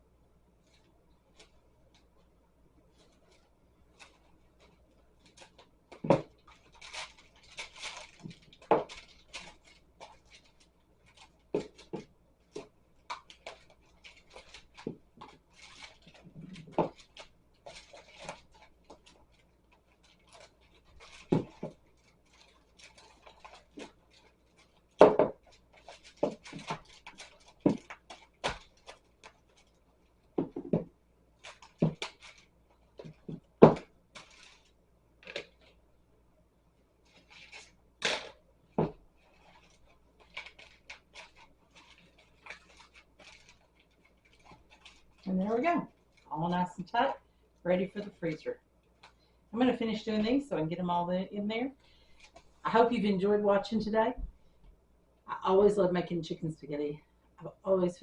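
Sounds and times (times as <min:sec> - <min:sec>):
plastic wrap crinkling: 0:02.9 - 0:35.8, 0:37.0 - 0:50.4.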